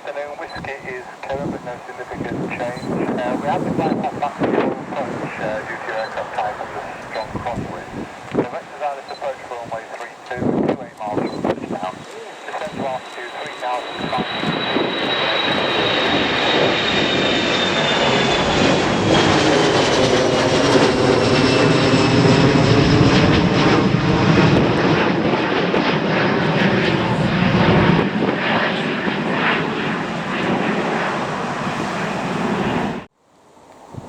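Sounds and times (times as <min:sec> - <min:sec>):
airliner engines passing: 0:00.0 - 0:33.1.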